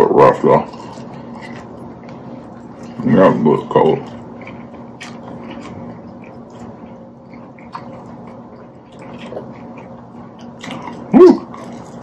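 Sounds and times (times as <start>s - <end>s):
people chewing food: 0.0s - 12.0s
steady low hum: 0.0s - 12.0s.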